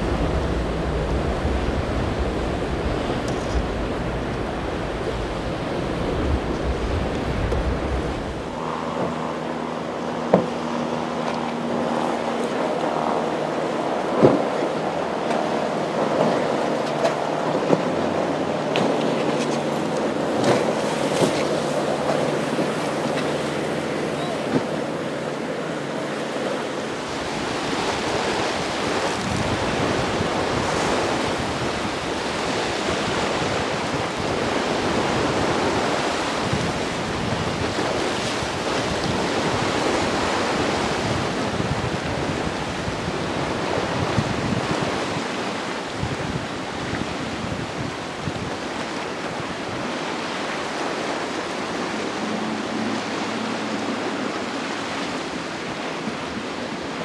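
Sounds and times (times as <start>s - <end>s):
waves breaking: 0.0s - 57.0s
wind buffeting microphone: 0.0s - 57.0s.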